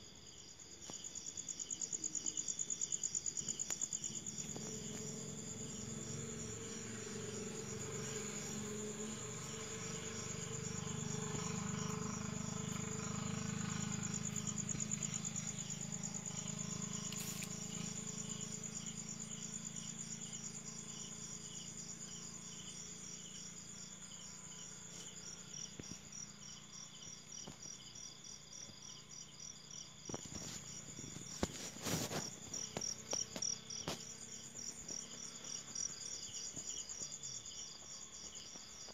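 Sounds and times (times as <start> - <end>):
crickets and cicadas trilling: 0.0 - 38.9.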